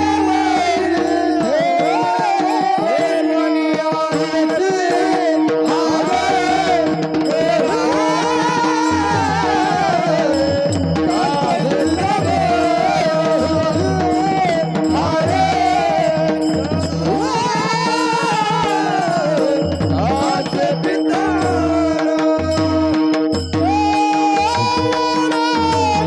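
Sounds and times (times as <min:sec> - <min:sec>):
drum accompaniment: 0:00.0 - 0:26.0
person singing devotional song: 0:00.0 - 0:26.0.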